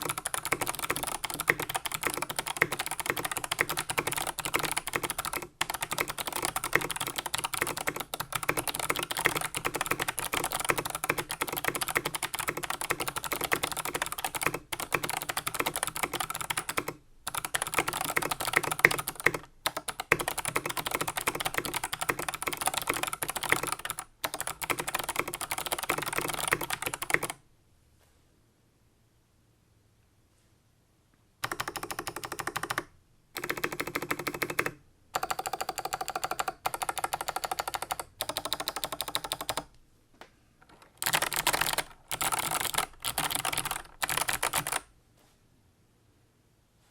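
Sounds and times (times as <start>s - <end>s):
clicky keyboard typing: 0.0s - 27.4s, 31.4s - 39.8s, 40.6s - 44.9s.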